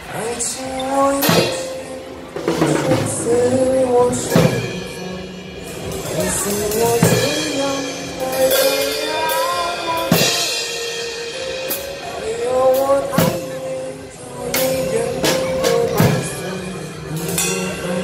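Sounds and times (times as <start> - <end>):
acoustic drum kit playing: 0.0 - 18.0
backing track with melody: 0.0 - 18.0.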